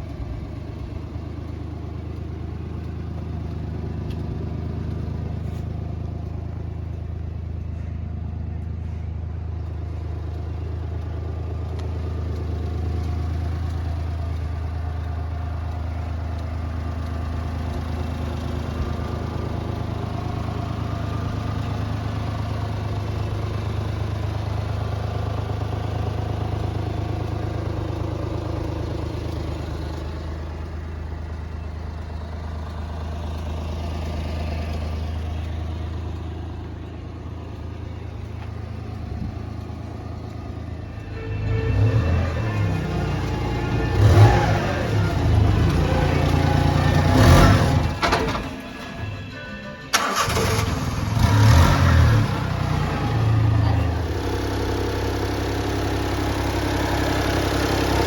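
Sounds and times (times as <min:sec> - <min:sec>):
small truck engine idling: 0:00.0 - 0:58.0.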